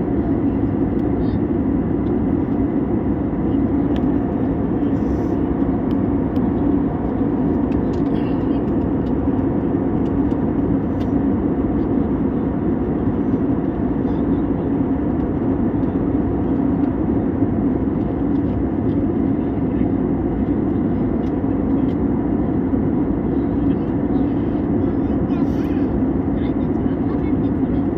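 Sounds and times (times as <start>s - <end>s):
airplane engine drone: 0.0s - 27.9s.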